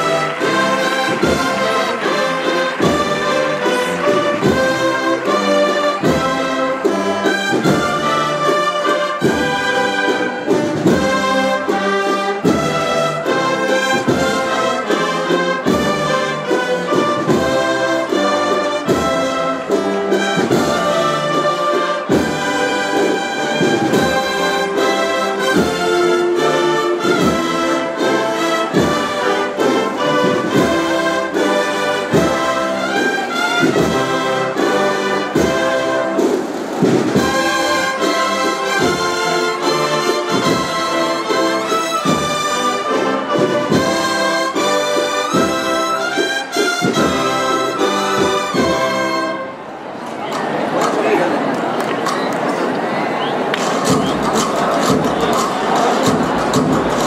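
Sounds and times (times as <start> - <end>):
steady drum beat: 0.0 - 49.2, 53.6 - 57.0
brass band processional march: 0.0 - 57.0.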